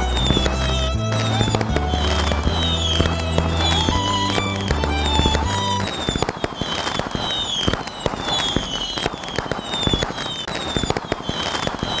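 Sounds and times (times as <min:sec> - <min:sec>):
falling firework whistles: 0:00.0 - 0:12.0
fireworks bangs and crackles: 0:00.0 - 0:12.0.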